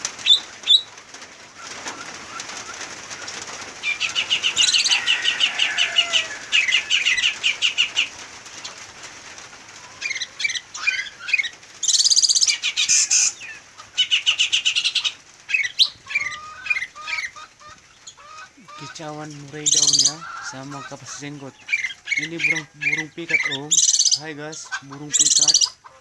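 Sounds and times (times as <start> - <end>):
songbirds chirping trills: 0.0 - 26.0.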